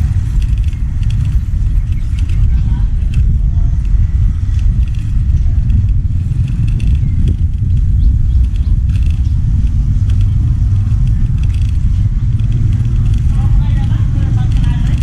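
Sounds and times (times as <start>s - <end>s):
faint clicks and rattles: 0.0s - 15.0s
wind buffeting microphone: 0.0s - 15.0s.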